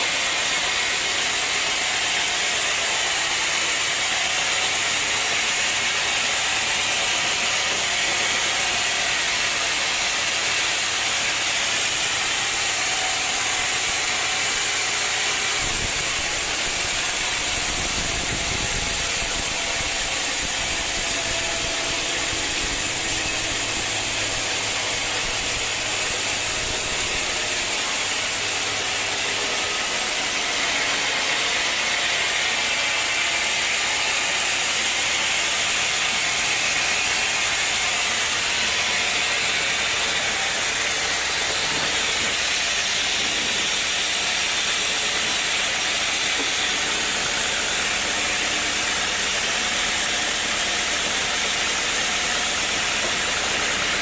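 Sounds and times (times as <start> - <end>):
sawmill machinery hissing: 0.0 - 54.0.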